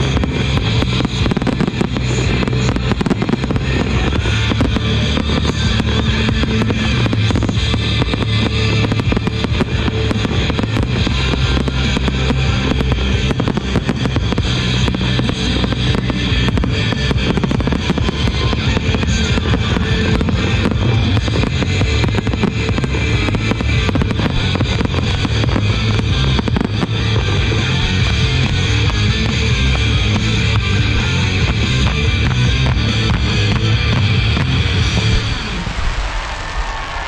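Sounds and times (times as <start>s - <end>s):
fireworks cracking and popping: 0.0s - 37.0s
loud rock music: 0.0s - 37.0s.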